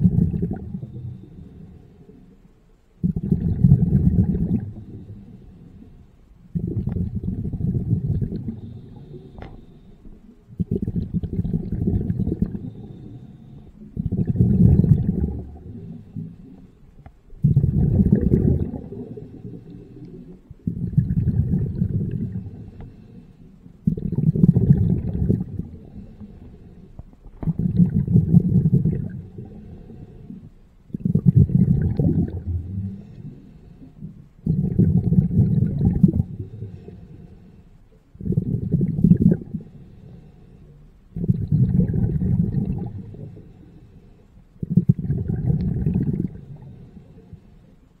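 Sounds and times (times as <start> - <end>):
underwater bubbling gurgle: 0.0 - 2.4, 3.0 - 40.3, 41.0 - 43.9, 44.6 - 47.5.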